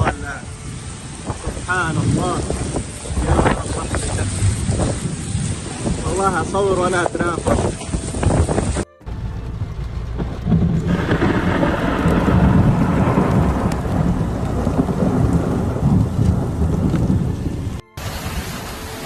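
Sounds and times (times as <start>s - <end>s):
rolling thunder: 0.0s - 18.6s
heavy rain: 0.0s - 19.0s.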